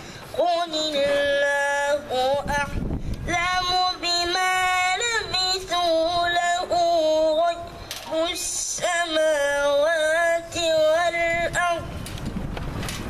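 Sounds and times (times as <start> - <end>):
boy chanting melodically: 0.0 - 12.0.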